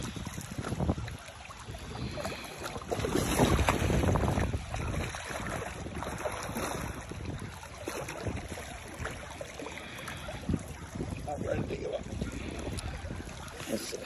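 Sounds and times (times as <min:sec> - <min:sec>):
river water lapping: 0:00.0 - 0:14.0
wind rumbling on microphone: 0:00.0 - 0:14.0.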